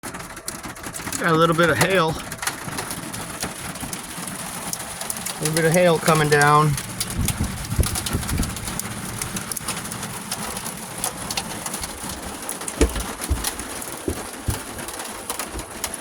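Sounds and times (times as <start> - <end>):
hail ticking on surfaces: 0.0 - 16.0.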